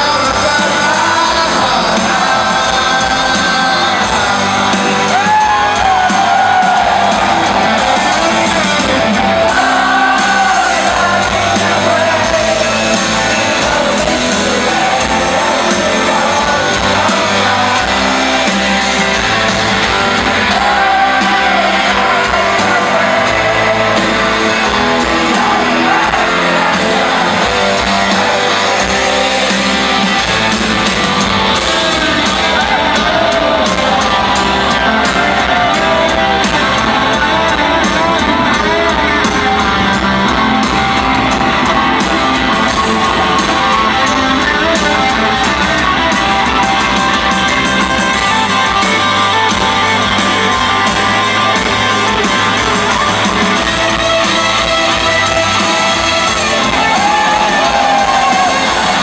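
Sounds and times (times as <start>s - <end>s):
live rock band playing: 0.0s - 59.0s
people shouting: 0.0s - 59.0s.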